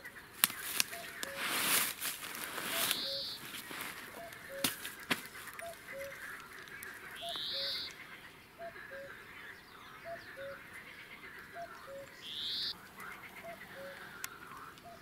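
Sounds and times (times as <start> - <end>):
cuckoo calling: 0.0 - 15.0.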